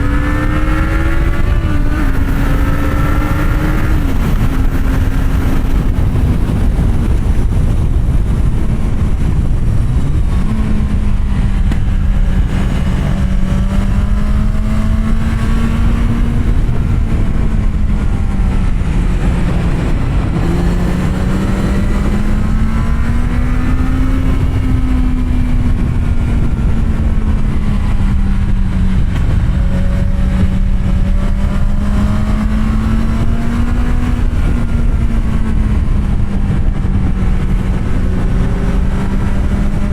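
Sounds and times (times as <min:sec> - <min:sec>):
motorcycle engine revving: 0:00.0 - 0:39.9
wind rushing on microphone: 0:00.0 - 0:39.9.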